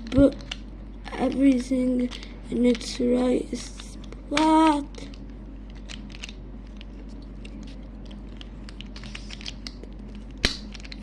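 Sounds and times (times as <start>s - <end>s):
plastic cube pieces clicking: 0.0s - 0.6s, 1.3s - 2.9s, 3.6s - 6.8s, 7.4s - 11.0s.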